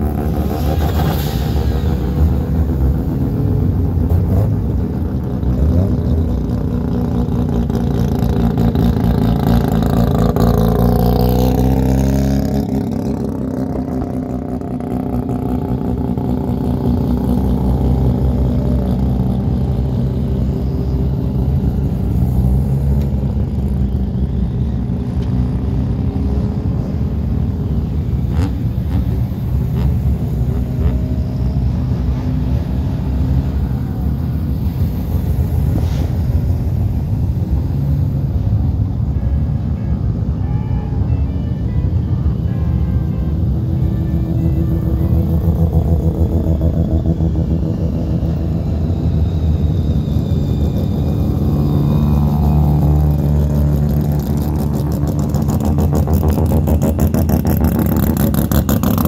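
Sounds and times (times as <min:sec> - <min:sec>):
car engines driving past: 0:00.0 - 0:40.4, 0:43.0 - 0:59.0.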